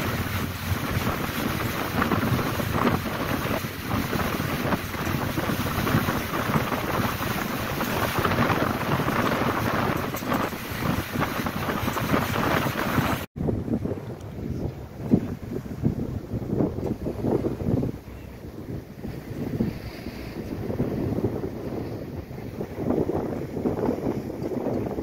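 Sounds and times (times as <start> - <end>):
boat engine running: 0.0 - 25.0
water washing beneath boat: 0.0 - 25.0
wind buffeting microphone: 0.0 - 25.0.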